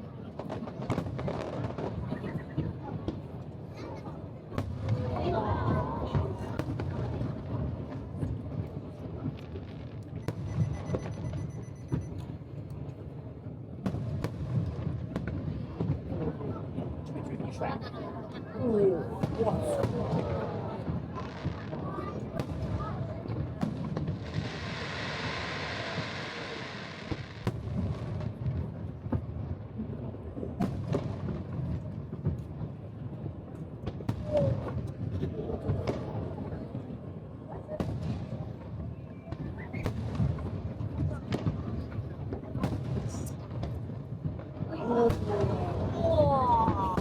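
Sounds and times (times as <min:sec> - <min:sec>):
fireworks bangs and cracks: 0:00.0 - 0:17.8, 0:18.6 - 0:47.0.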